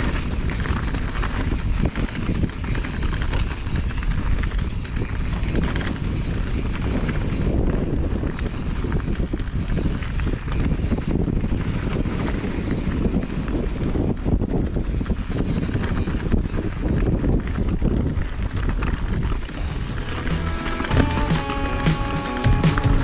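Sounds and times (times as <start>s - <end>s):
bike rattling: 0.0s - 23.0s
bike tyres rolling on gravel: 0.0s - 23.0s
wind noise on microphone: 0.0s - 23.0s.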